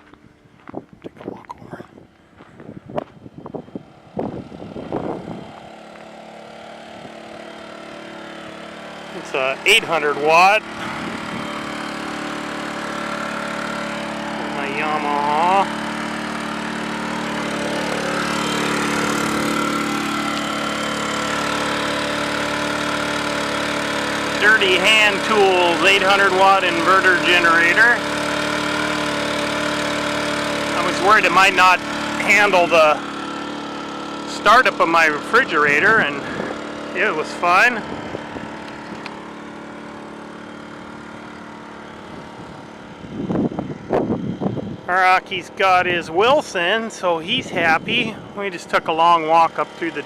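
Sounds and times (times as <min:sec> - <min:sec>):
generator engine running: 0:00.0 - 0:50.0.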